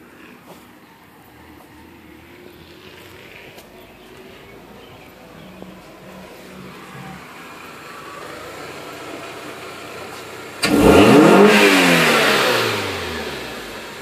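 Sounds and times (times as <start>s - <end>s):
race car engine revving: 1.4s - 14.0s.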